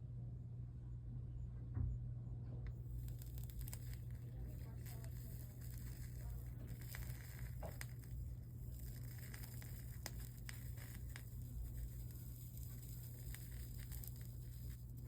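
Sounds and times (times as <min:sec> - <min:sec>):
steady low hum: 0:00.0 - 0:15.0
soldering iron crackling and clicking: 0:02.7 - 0:15.0.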